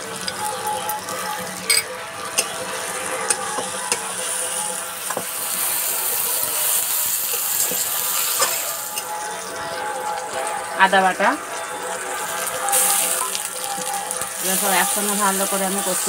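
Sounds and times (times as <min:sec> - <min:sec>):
paste sizzling in hot oil: 0:02.2 - 0:16.0.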